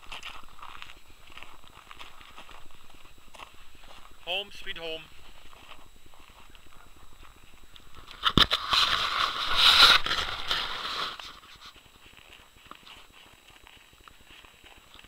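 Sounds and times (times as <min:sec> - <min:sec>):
footsteps crunching on icy snow: 0:00.0 - 0:15.0.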